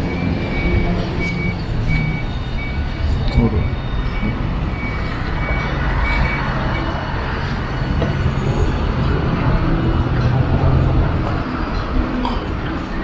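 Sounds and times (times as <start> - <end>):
tram motor hum: 0.0 - 13.0
tram wheels on rails: 0.0 - 13.0.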